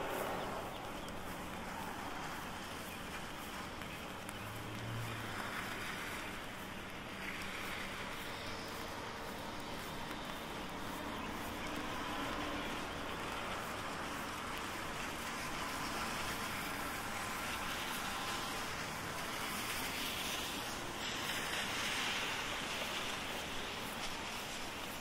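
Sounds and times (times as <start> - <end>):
rain hissing on umbrella: 0.0 - 25.0
tyres on wet street: 0.0 - 25.0.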